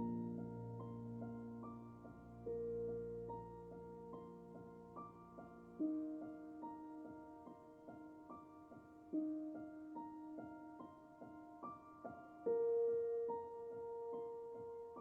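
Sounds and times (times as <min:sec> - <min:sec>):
slow quiet piano music: 0:00.0 - 0:15.0.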